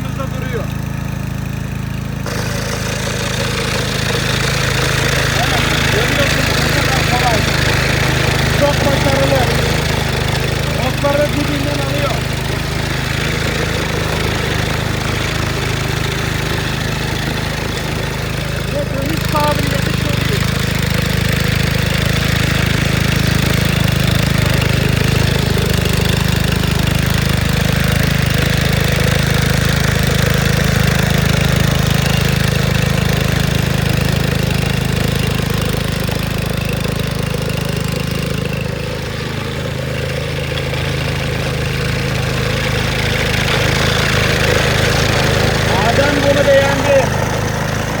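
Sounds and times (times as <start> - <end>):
mower petrol engine running: 0.0 - 48.0.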